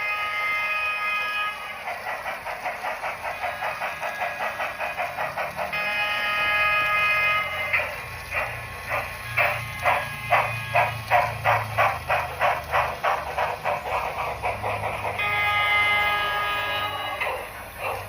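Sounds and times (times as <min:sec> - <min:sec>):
multi-tone steam whistle: 0:00.0 - 0:12.5, 0:14.5 - 0:18.0
steam locomotive exhaust chuffs: 0:00.0 - 0:18.0.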